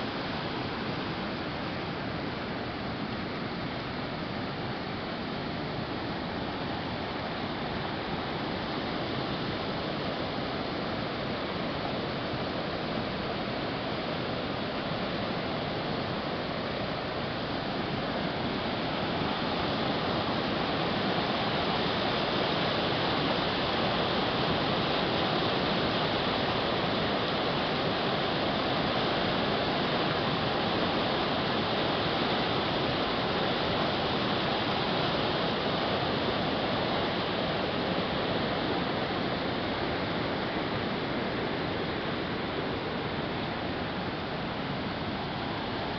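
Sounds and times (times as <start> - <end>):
flooded creek rushing: 0.0 - 45.9.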